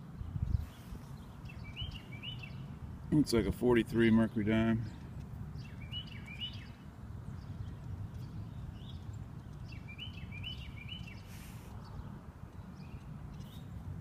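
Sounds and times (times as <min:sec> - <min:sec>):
small bird chirping: 0:00.2 - 0:02.8, 0:04.1 - 0:14.0.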